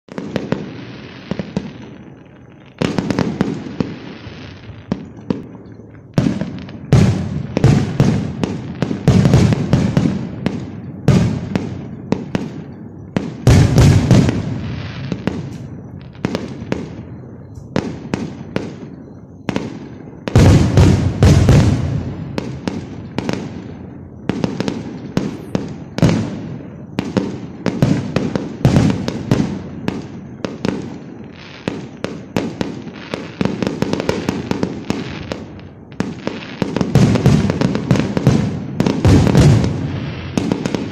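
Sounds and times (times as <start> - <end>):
fireworks banging: 0.1 - 40.9.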